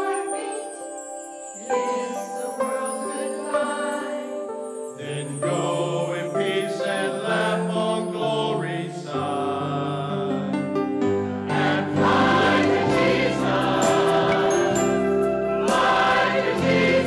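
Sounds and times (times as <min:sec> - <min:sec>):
church choir singing: 0:00.0 - 0:17.0.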